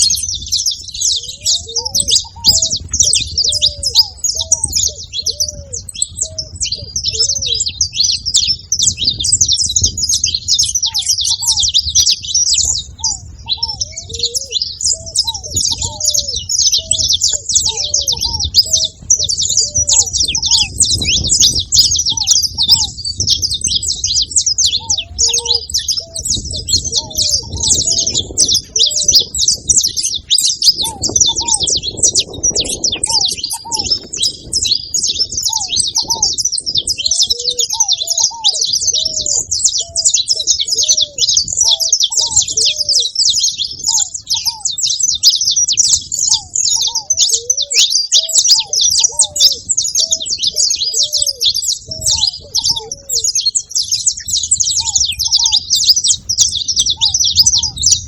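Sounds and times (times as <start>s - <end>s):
finches chirping and singing: 0.0s - 58.0s
low-pitched bird call: 0.0s - 58.0s.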